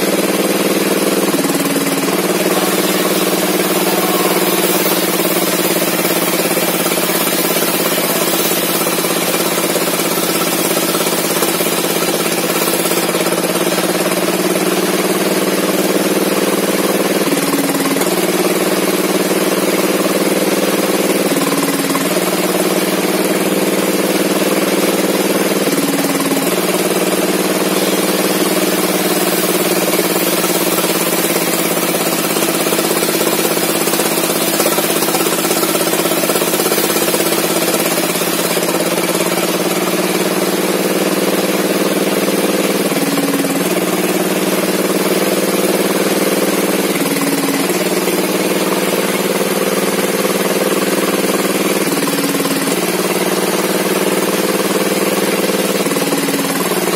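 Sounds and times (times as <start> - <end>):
log saw engine running: 0.0 - 56.9.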